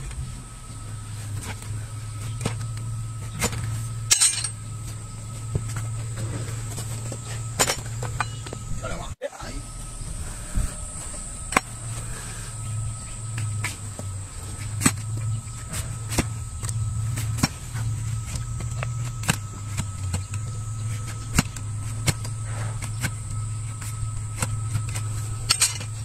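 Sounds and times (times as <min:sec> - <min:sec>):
low hum: 0:00.0 - 0:26.0
thin high whine: 0:00.0 - 0:26.0.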